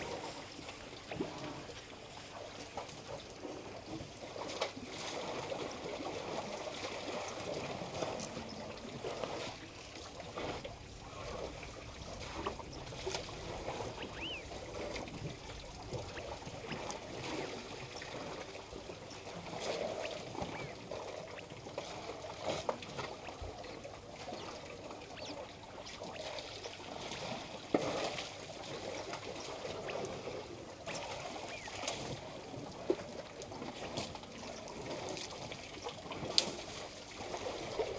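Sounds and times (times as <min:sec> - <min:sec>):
water sloshing and splashing: 0:00.0 - 0:37.9.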